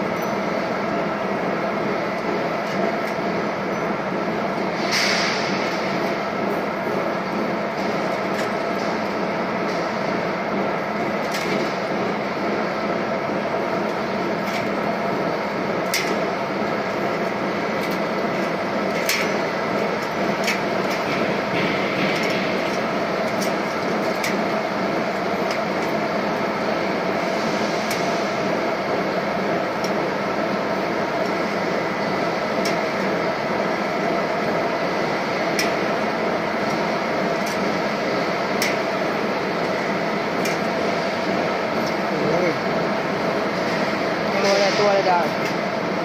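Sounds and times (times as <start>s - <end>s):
machinery humming: 0.0s - 46.0s.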